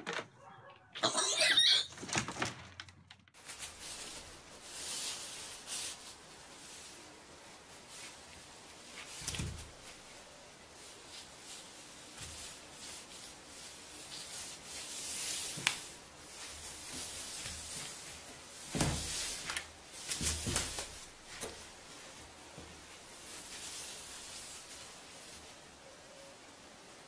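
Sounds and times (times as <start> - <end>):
cat paws scraping carpet and paper: 3.4 - 25.9.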